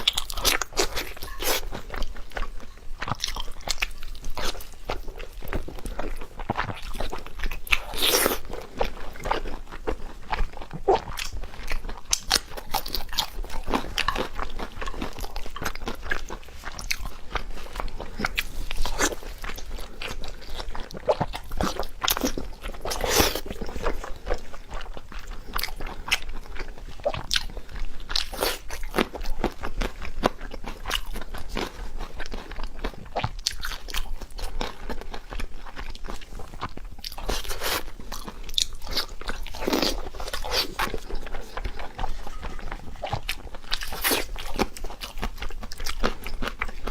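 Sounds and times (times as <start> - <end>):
person chewing crunchy food: 0.0 - 46.9.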